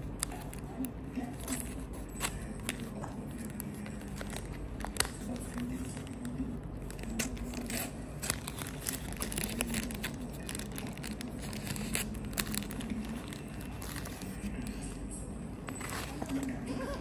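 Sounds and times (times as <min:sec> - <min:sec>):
tape crinkling and tearing: 0:00.0 - 0:14.9.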